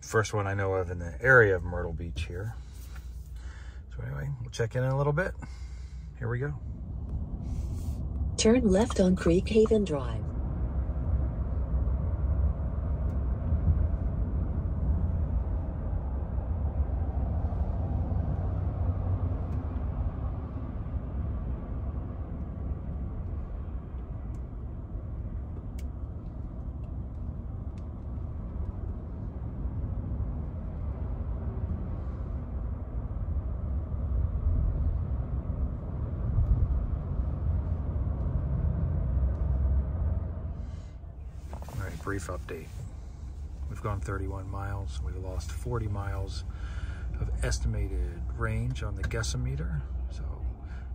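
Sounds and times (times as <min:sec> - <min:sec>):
road and tyre noise: 0:00.0 - 0:50.9.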